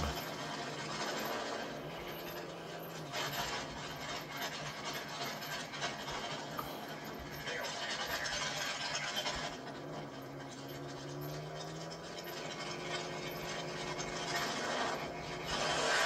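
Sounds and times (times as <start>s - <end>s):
car engines idling: 0.0s - 16.0s.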